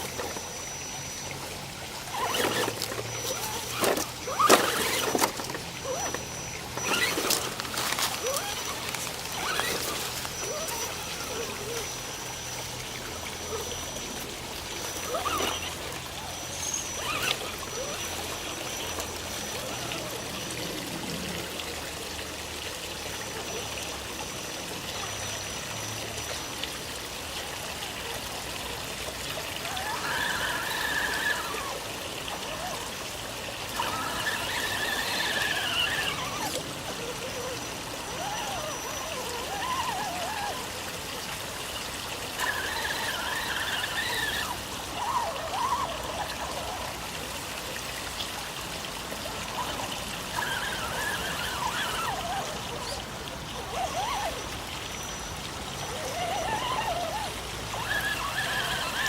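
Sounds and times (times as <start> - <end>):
water running: 0.0 - 59.0.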